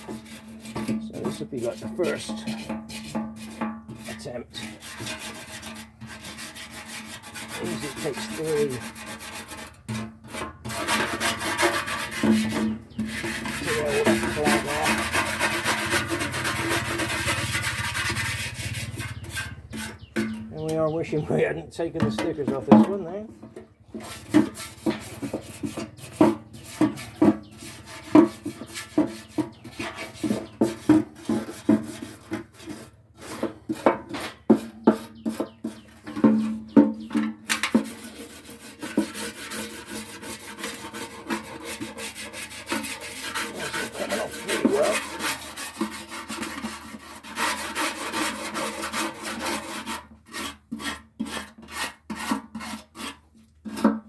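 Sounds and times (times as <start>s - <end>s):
brush scrubbing metal: 0.0s - 54.0s.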